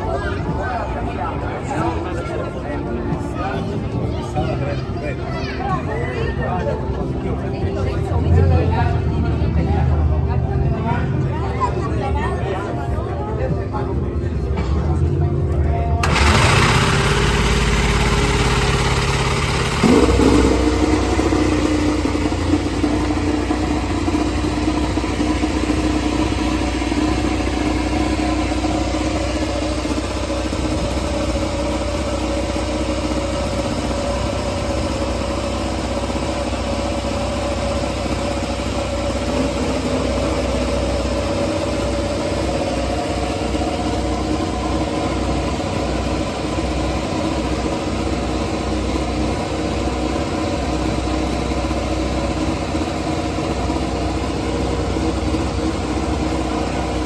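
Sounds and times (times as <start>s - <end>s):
motorcycle engine idling loudly: 0.0s - 13.5s, 14.3s - 57.0s.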